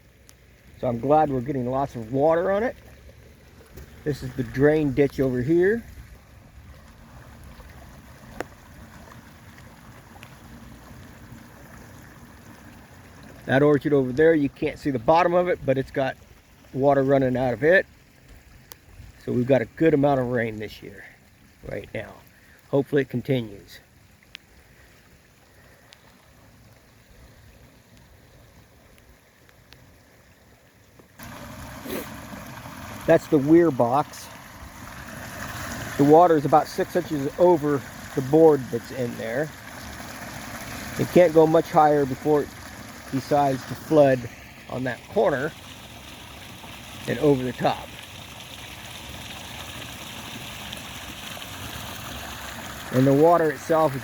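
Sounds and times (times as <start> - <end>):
water flowing in ditch: 0.0 - 54.0.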